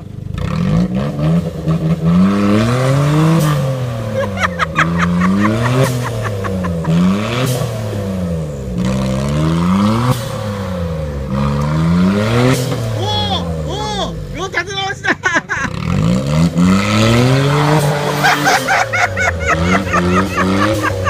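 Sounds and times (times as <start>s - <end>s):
vehicle engine revving: 0.0s - 14.8s, 15.5s - 21.0s.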